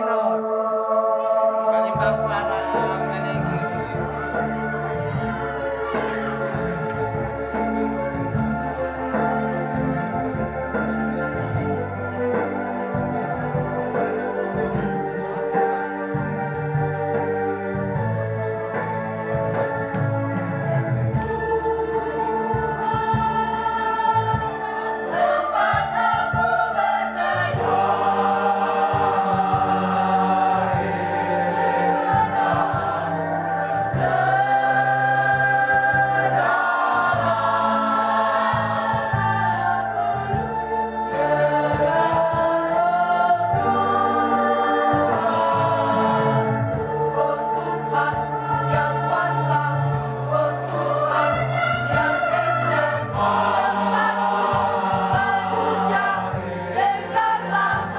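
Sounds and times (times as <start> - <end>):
electronic organ chords: 0.0 - 57.9
youth choir singing: 0.0 - 57.9.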